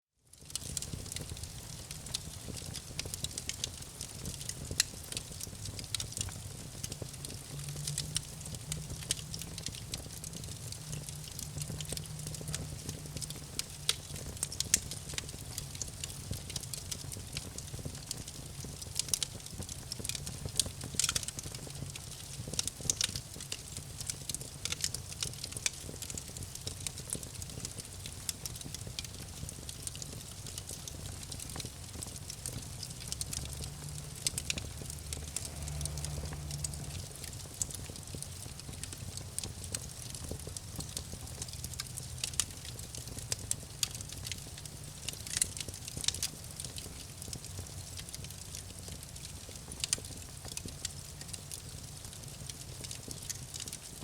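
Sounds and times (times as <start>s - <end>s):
campfire crackling: 0.3s - 54.0s.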